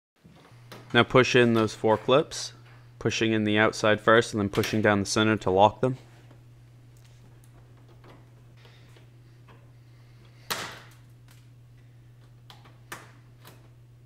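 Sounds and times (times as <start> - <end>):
steady low hum: 0.2 - 14.0.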